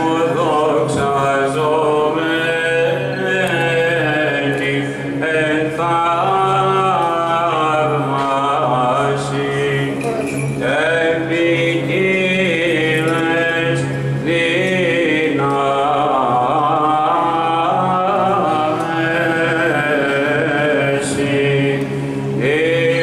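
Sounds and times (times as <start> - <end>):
male voices chanting: 0.0 - 23.0.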